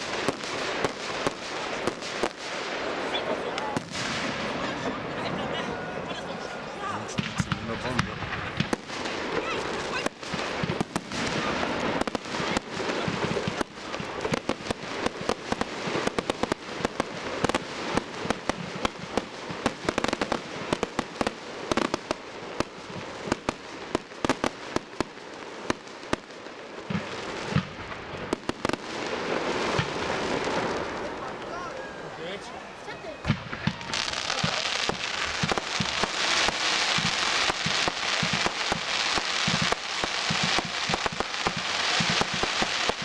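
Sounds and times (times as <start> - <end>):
fireworks crackling and banging: 0.0 - 43.0.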